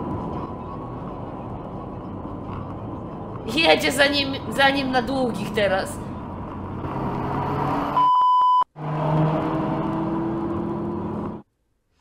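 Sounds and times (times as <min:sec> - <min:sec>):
in-car road and engine noise: 0:00.0 - 0:11.6.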